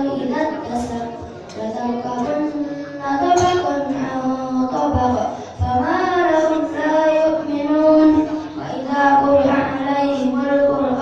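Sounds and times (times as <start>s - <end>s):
child reciting in melodic chant: 0.0s - 11.0s.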